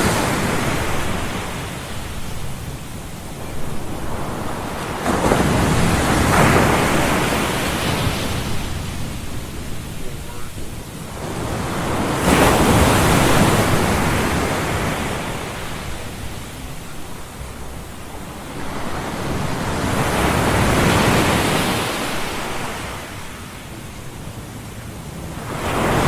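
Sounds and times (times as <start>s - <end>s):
ocean surf washing ashore: 0.0s - 26.0s.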